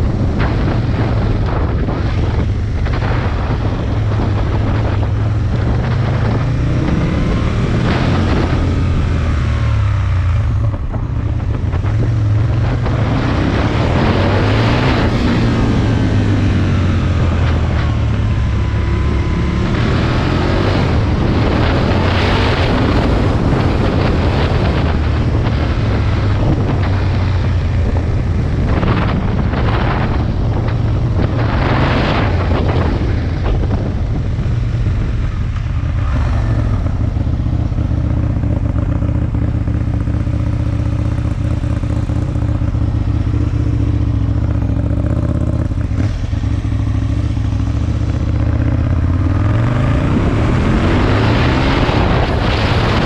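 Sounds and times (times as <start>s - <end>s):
motorcycle engine revving: 0.0s - 53.0s
wind noise on microphone: 0.0s - 53.0s.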